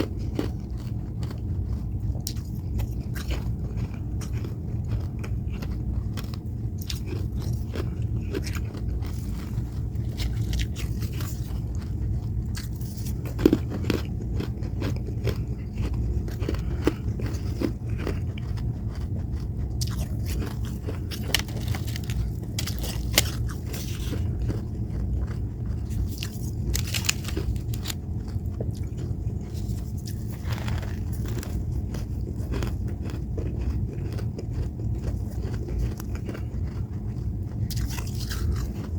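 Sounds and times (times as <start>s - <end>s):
frost crunching in mouth: 0.0s - 38.9s
low hum: 0.0s - 38.9s.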